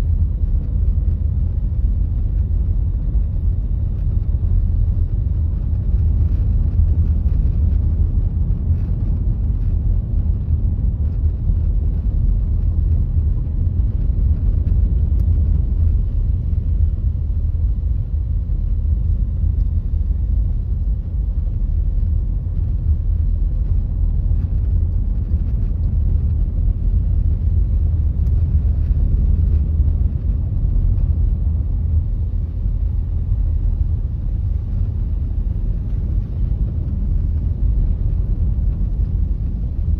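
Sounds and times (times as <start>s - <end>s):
car engine: 0.0s - 39.9s
road and tyre rumble: 0.0s - 39.9s.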